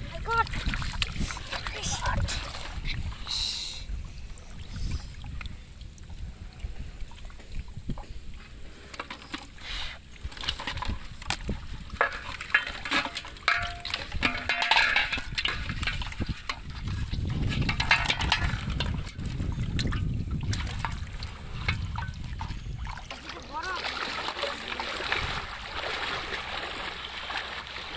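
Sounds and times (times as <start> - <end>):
water splashing and sloshing: 0.0 - 27.9.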